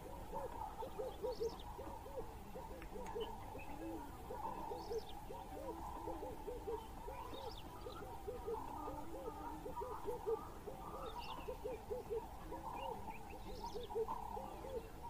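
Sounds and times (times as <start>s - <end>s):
birds low hooting calls: 0.0s - 15.0s
faint high bird chirps: 0.2s - 15.0s.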